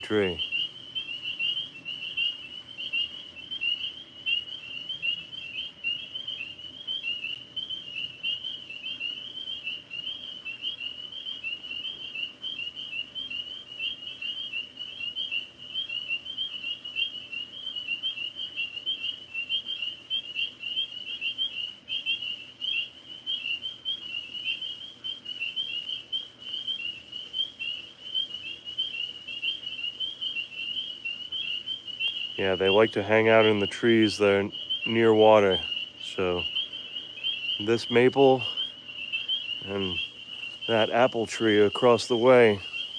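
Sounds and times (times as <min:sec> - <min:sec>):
tree frogs trilling: 0:00.0 - 0:42.9.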